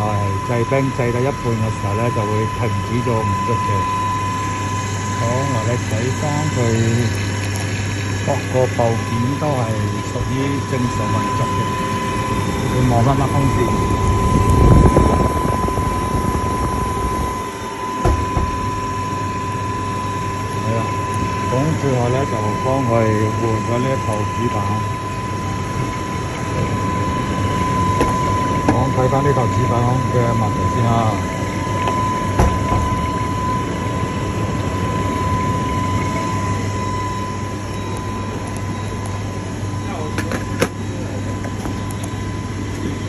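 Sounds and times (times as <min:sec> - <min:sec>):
high steady whine: 0:00.0 - 0:43.0
machinery drone: 0:00.0 - 0:43.0
refrigeration unit humming: 0:00.0 - 0:43.0.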